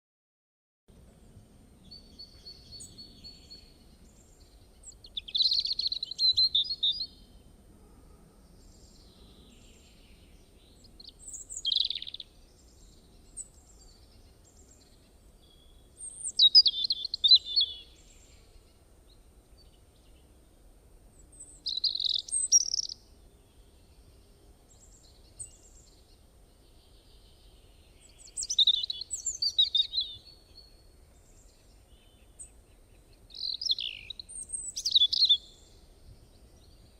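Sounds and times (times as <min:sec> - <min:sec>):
songbird singing: 0:00.9 - 0:36.9
faint bird chirps: 0:01.8 - 0:20.4, 0:21.1 - 0:36.9.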